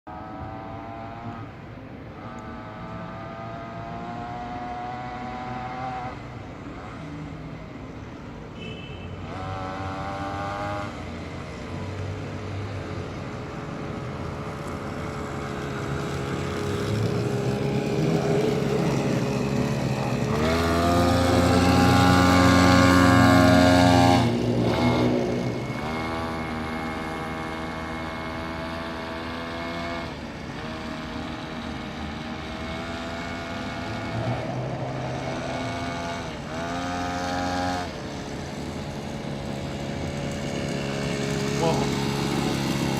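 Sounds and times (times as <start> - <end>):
small gasoline engine revving: 0.1 - 7.6, 9.2 - 42.9.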